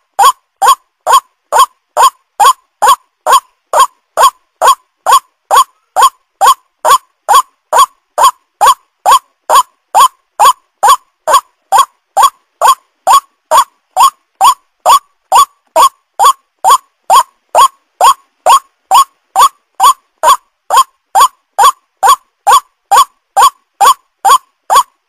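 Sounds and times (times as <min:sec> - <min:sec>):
waterhen calling: 0:00.2 - 0:24.9.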